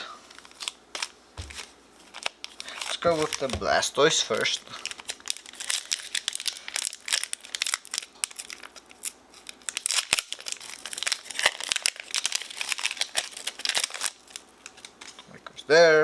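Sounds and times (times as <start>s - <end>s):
foil wrapper crinkling and tearing: 0.0s - 15.3s.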